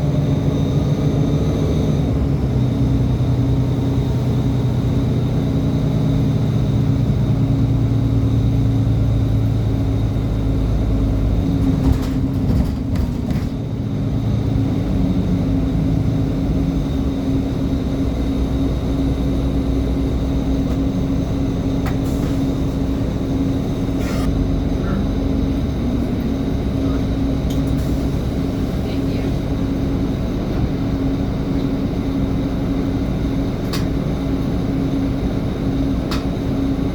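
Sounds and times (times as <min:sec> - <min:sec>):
bus engine droning: 0:00.0 - 0:36.9.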